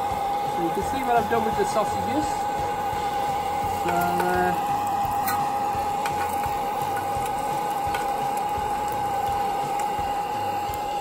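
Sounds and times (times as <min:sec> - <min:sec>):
food sizzling on hot metal: 0:00.0 - 0:11.0
gas blow lamps hissing: 0:00.0 - 0:11.0.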